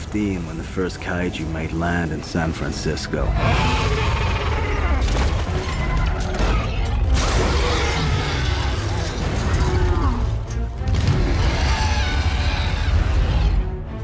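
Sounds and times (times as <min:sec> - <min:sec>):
orchestral score: 0:00.0 - 0:14.0.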